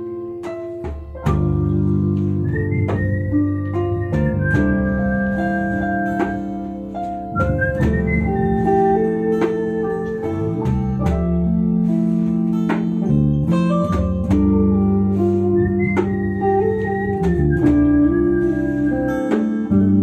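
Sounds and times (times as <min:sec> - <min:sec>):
acoustic guitar strumming: 0:00.0 - 0:20.0
electric bass: 0:00.0 - 0:20.0
electric guitar: 0:00.0 - 0:20.0
held keyboard chords: 0:00.0 - 0:20.0.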